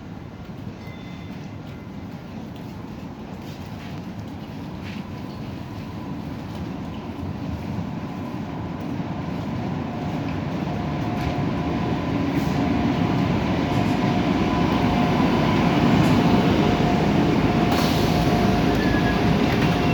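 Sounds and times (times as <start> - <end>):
train wheels rumbling on track: 0.0 - 19.9.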